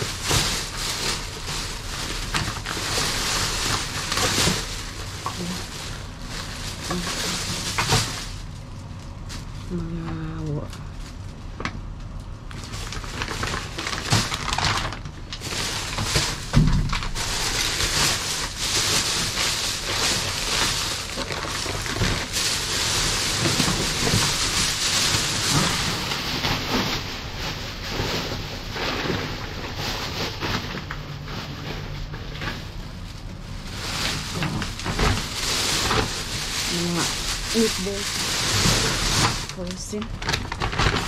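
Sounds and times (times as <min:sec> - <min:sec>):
plastic bags crinkling: 0:00.0 - 0:41.0.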